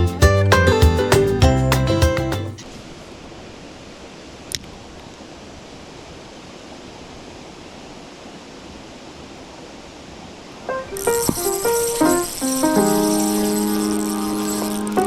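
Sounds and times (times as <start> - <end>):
stream water rushing: 2.6 - 15.0.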